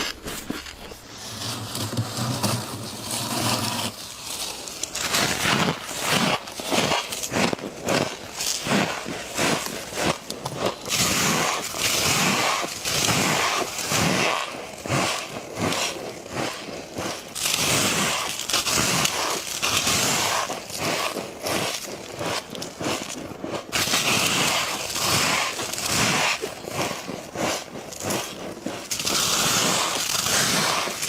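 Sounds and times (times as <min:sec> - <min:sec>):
chewing crunchy ice: 0:00.0 - 0:01.4, 0:02.5 - 0:31.0.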